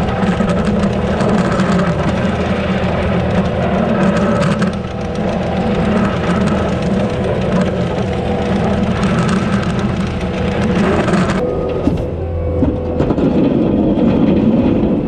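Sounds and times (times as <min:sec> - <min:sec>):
diesel engine running under load: 0:00.0 - 0:15.0
scattered clatter: 0:00.0 - 0:15.0.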